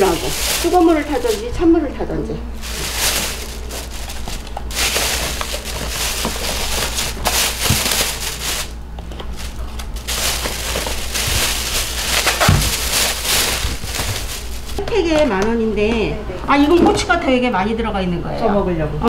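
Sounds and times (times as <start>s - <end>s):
plastic bag crinkling: 0.0s - 15.3s.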